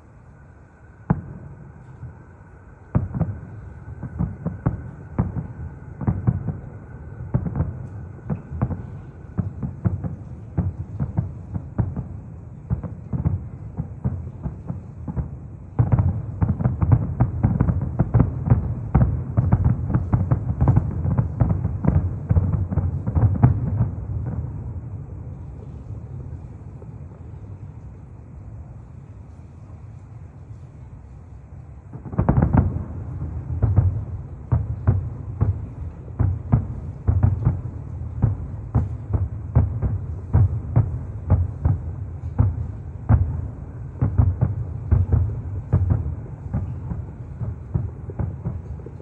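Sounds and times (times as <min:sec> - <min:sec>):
distant fireworks booming: 0:00.3 - 0:49.0.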